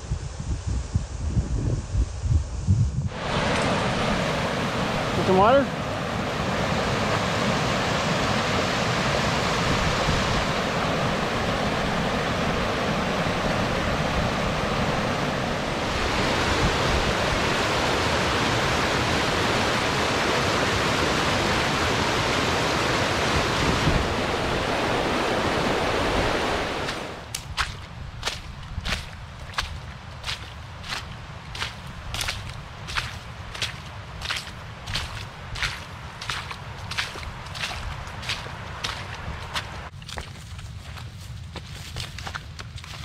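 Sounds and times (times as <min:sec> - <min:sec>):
stream rushing over rocks: 0:03.1 - 0:39.9.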